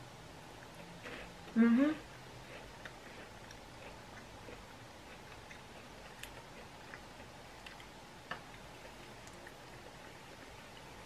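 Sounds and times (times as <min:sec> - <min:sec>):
crunchy cookie chewing: 0:00.6 - 0:11.0.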